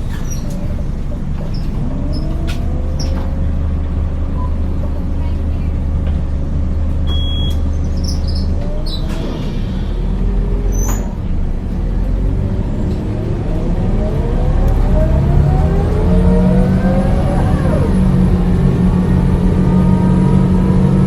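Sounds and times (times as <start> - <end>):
diesel bus engine: 0.0 - 21.0
engine and driveline whine: 0.0 - 21.0.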